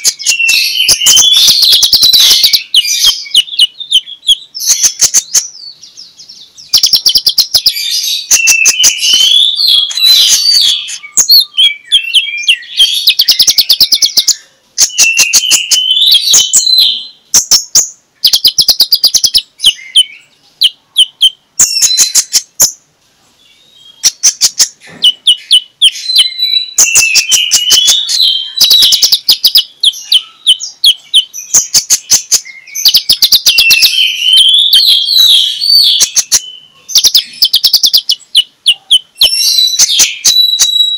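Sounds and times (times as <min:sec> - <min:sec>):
sunbird singing: 0:00.0 - 0:40.9.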